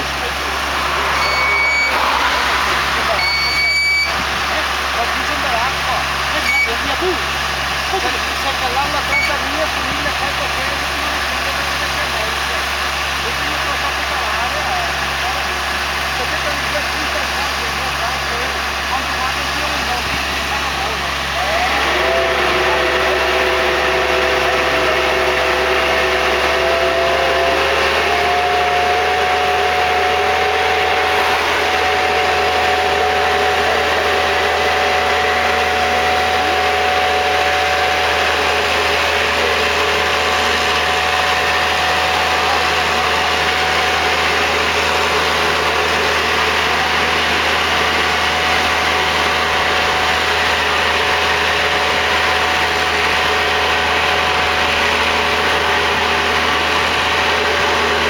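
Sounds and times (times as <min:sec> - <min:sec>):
crop sprayer engine whining: 0:00.0 - 0:58.0.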